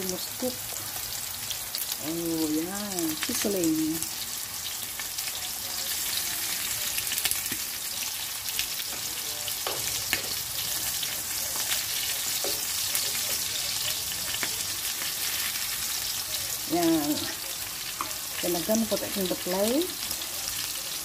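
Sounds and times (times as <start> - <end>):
meat sizzling in a frying pan: 0.0 - 21.0.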